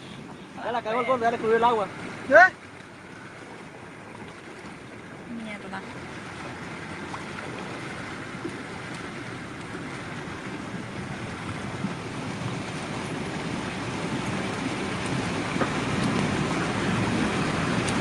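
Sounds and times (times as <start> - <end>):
water rushing against a car: 0.0 - 18.0.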